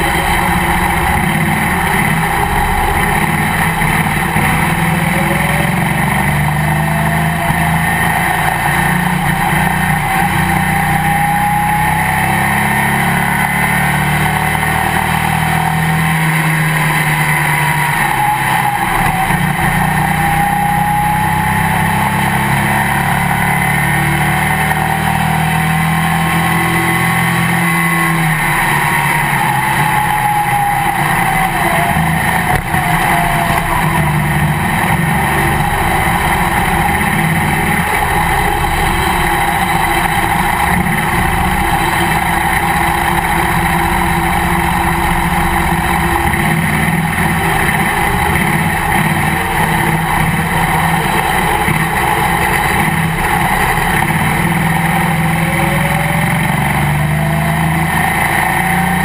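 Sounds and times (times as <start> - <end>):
race car engine running: 0.0 - 59.0
whine rising and falling: 0.0 - 59.0.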